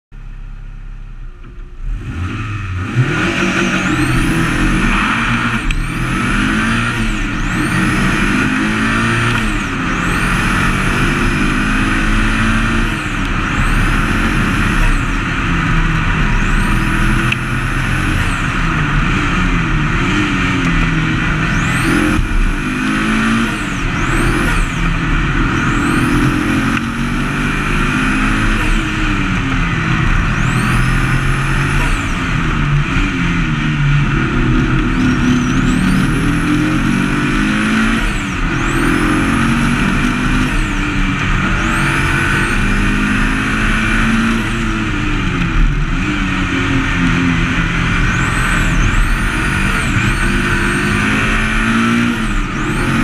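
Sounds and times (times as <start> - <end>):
wind and road rush: 0.2 - 53.0
racing engine revving: 1.5 - 53.0.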